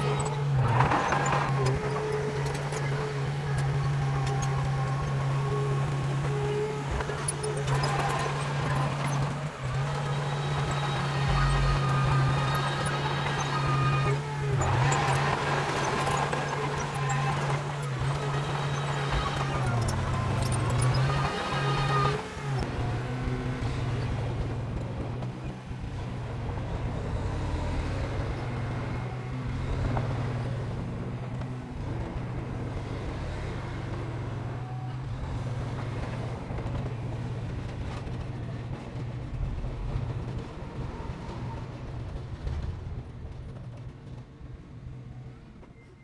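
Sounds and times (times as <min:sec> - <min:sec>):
diesel machinery engine drone: 0:00.0 - 0:46.0.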